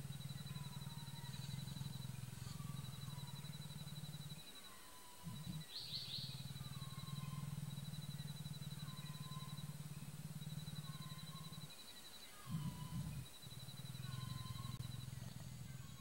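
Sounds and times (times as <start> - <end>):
high pulsing trill: 0.0 - 16.0
leopard growling: 0.0 - 16.0.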